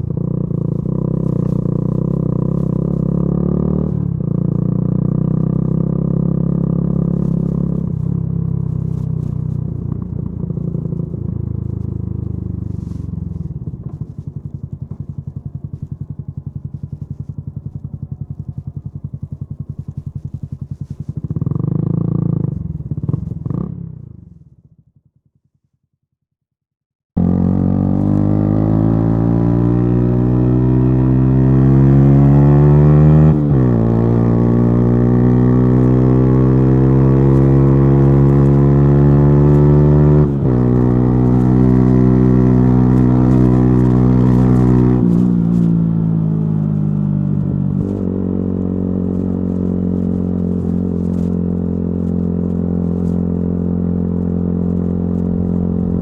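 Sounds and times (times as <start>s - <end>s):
motorcycle engine revving: 0.0s - 25.0s, 27.2s - 56.0s.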